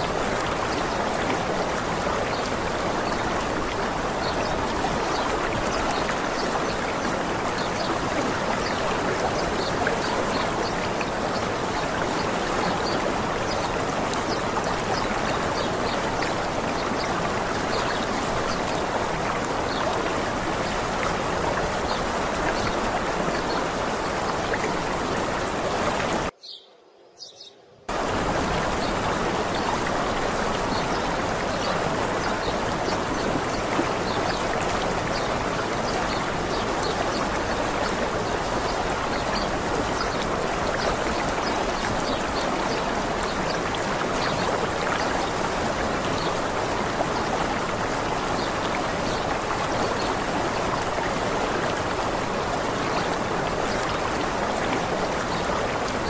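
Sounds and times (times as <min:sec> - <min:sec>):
waterfall rushing: 0:00.0 - 0:26.3, 0:27.9 - 0:56.0.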